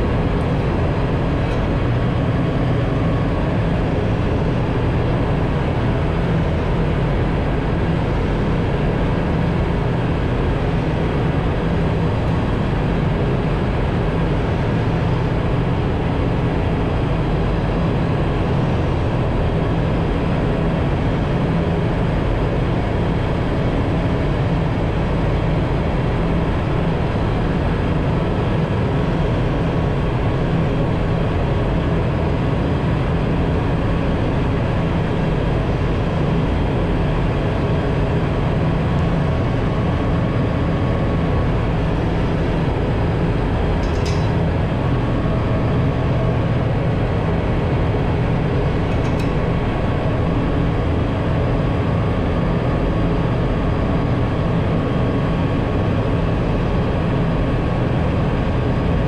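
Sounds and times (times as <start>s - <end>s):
engine room machinery drone: 0.0s - 59.0s.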